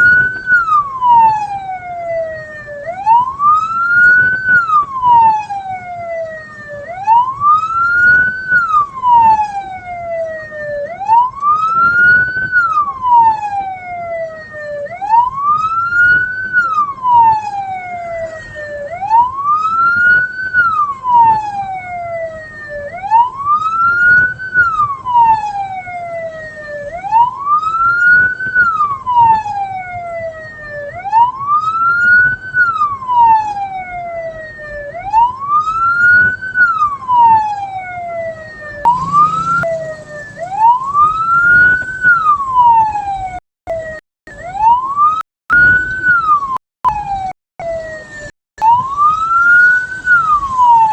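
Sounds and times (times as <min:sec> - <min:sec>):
electronic siren wailing: 0:00.0 - 0:50.9
road and engine rumble: 0:00.0 - 0:50.9.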